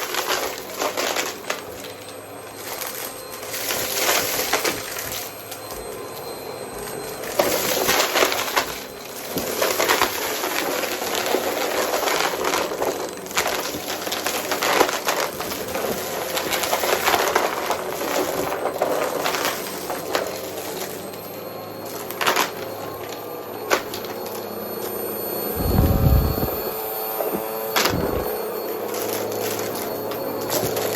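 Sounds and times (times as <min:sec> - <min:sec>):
vacuum cleaner motor hum: 0:00.0 - 0:30.9.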